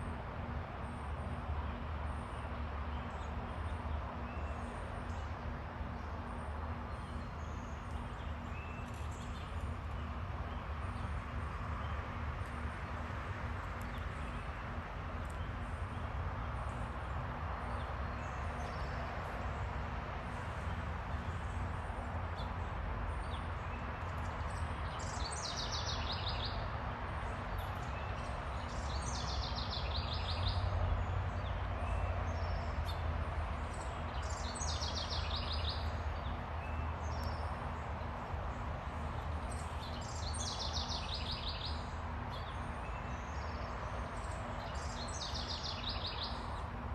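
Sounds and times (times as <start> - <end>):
songbird singing: 1.6 - 19.7, 20.3 - 46.8.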